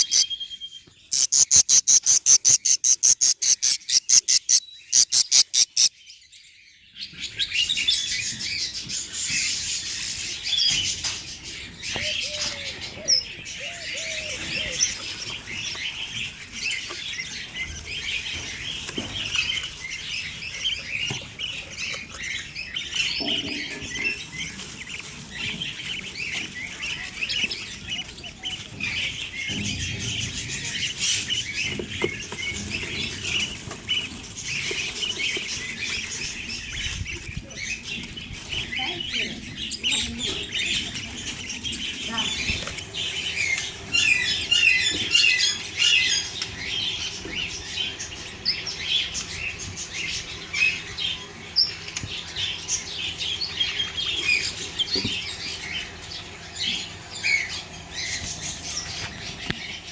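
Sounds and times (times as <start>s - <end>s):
budgerigars chirping: 0.0s - 6.2s, 6.8s - 59.9s.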